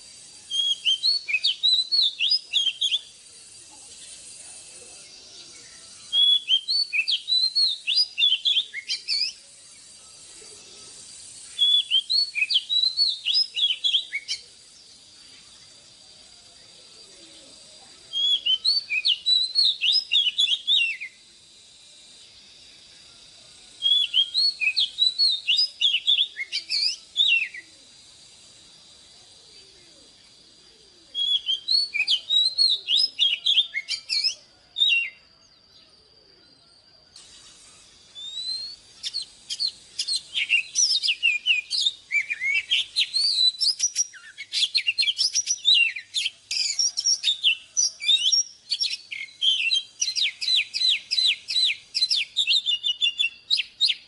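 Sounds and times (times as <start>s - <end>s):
bird singing whistled notes: 0.0s - 54.0s.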